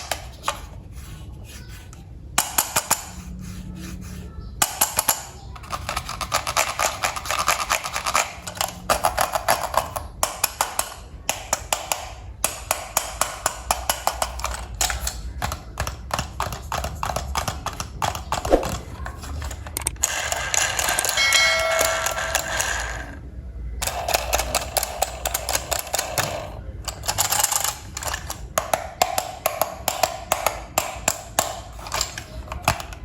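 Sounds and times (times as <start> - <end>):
plastic toy parts clicking: 2.4 - 3.2, 4.6 - 21.2, 23.8 - 33.0.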